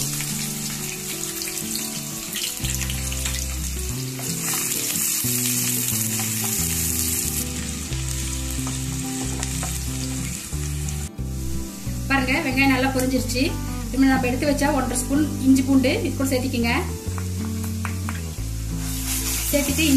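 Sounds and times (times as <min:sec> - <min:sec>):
onions sizzling in hot oil: 0:00.0 - 0:19.9.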